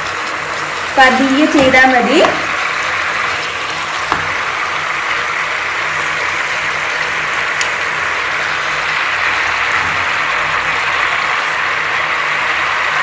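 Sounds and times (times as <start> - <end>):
oil bubbling and sizzling: 0.0 - 13.0.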